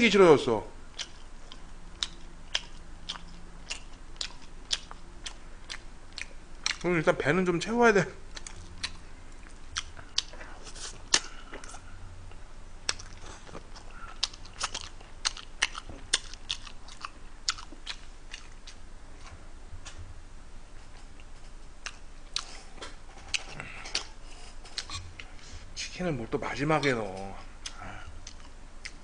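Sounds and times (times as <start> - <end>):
person chewing food: 0.9 - 6.9, 8.3 - 19.3, 20.9 - 25.6, 27.4 - 29.0.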